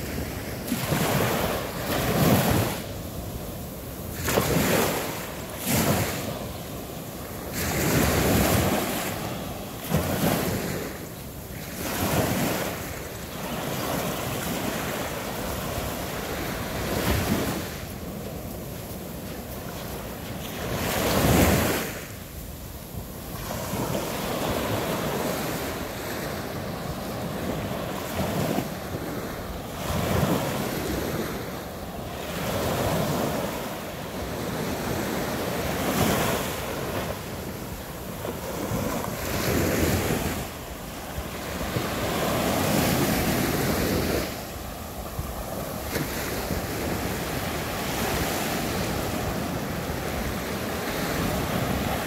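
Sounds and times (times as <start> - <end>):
waves washing on beach: 0.0 - 52.0.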